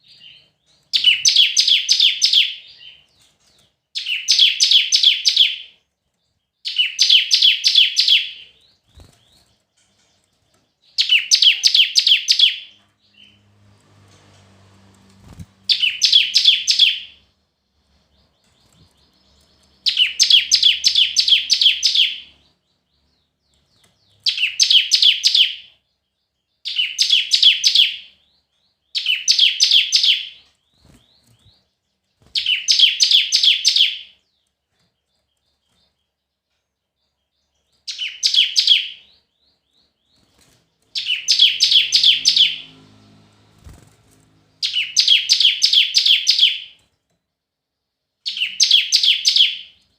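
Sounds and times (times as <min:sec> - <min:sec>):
small songbird singing: 0:00.0 - 0:47.1, 0:47.7 - 0:49.9.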